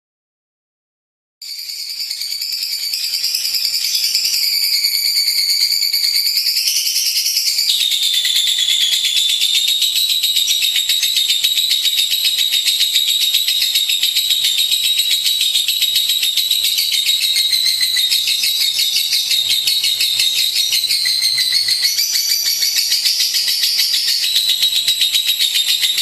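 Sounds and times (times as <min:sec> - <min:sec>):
lovebird chattering trill: 0:01.6 - 0:26.0.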